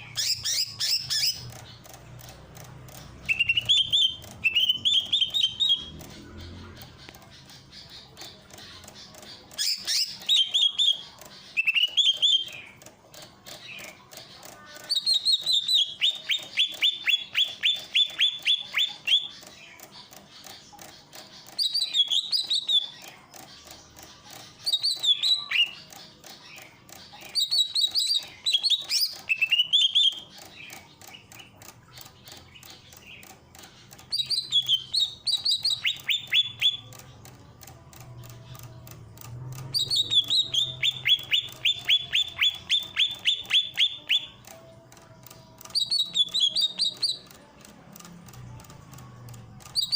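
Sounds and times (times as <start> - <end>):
bird singing rapid high notes: 0.0 - 47.4, 48.3 - 49.9.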